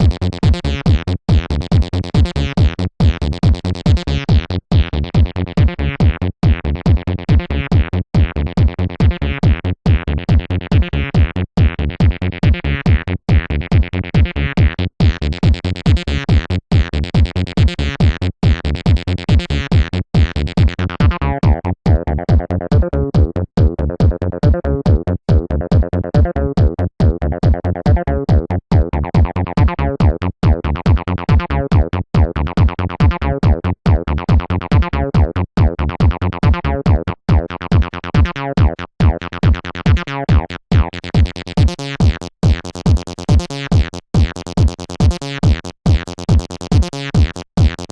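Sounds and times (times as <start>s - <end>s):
fast drum machine beat: 0.0s - 47.9s.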